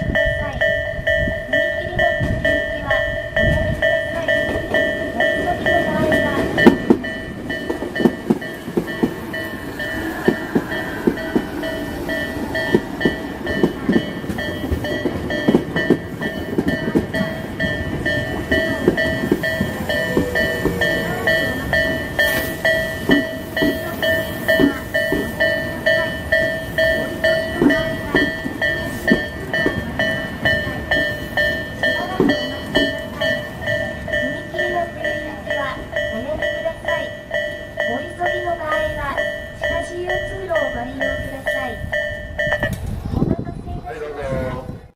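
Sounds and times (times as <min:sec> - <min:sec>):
level crossing alarm clanging: 0:00.0 - 0:42.9
train wheels clacking on rails: 0:00.0 - 0:43.5.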